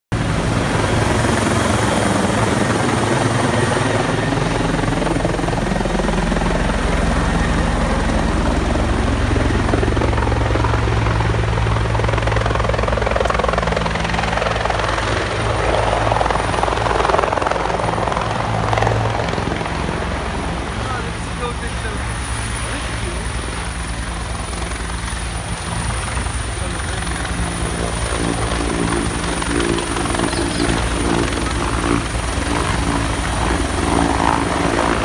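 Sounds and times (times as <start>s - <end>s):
helicopter engine running: 0.1s - 35.0s
helicopter rotor beating: 0.1s - 35.0s.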